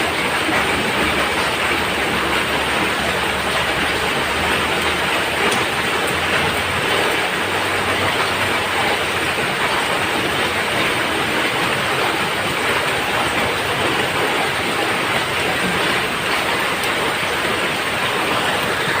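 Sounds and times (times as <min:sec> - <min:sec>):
heavy rain on a roof: 0:00.0 - 0:19.0.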